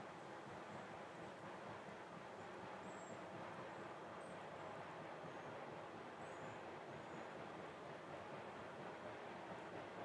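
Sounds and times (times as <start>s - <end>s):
wind-like hiss: 0.0s - 10.0s.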